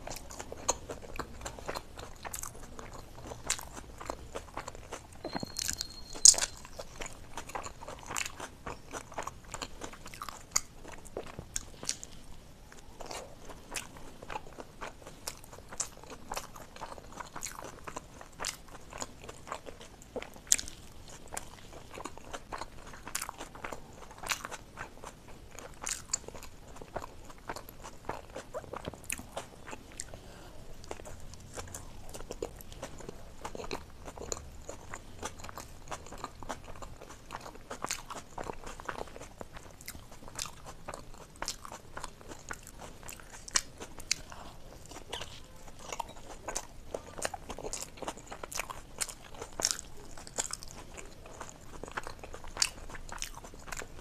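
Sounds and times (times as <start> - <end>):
person chewing with wet mouth clicks: 0.0 - 30.2, 30.8 - 54.0.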